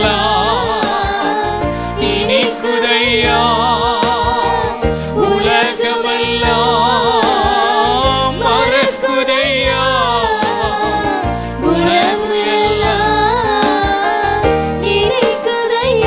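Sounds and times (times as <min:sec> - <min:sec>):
steady drum beat: 0:00.0 - 0:14.7
held melody with vibrato: 0:00.0 - 0:15.8.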